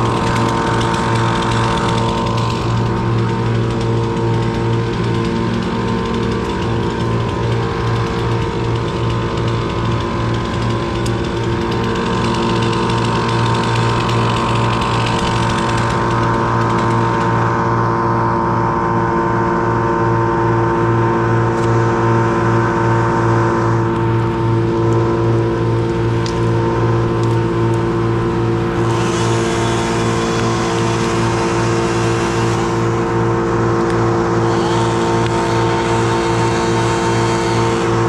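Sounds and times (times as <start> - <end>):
engine running with low throb: 0.0 - 38.0.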